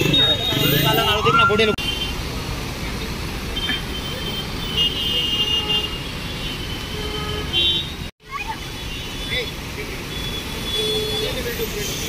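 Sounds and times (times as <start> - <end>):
engines rumbling: 0.0 - 12.0.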